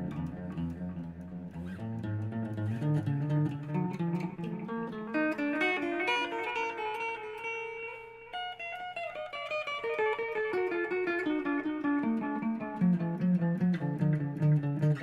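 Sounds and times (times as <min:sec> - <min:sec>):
electric guitar with echo and reverb: 0:00.0 - 0:15.0.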